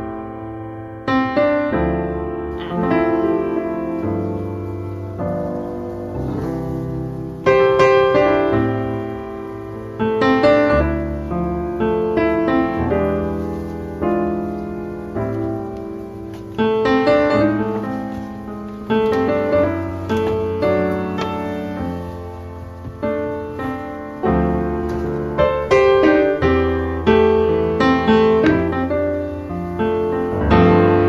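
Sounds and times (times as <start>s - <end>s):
slow gentle piano piece: 0.0s - 31.0s.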